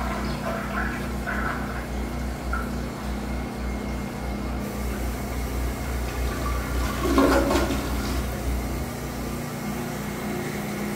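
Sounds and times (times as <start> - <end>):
toilet flushing: 0.0 - 10.9
water running as toilet refills: 0.0 - 10.9.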